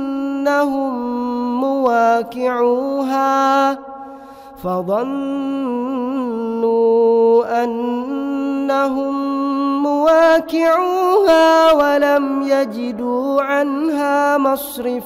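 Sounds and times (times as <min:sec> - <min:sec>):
man chanting melodically: 0:00.0 - 0:04.0, 0:04.6 - 0:15.0.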